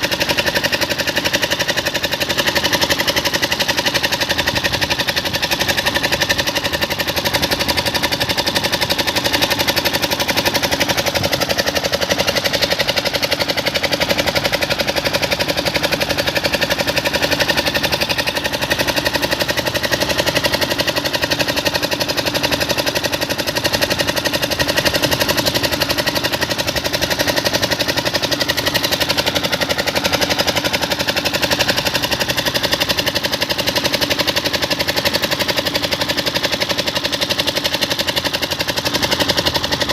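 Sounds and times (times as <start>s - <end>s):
crane engine running: 0.0s - 39.9s.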